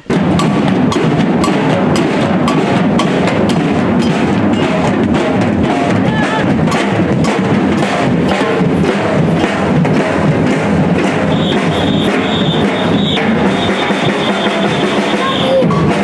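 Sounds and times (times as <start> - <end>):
street drum band: 0.0 - 16.0.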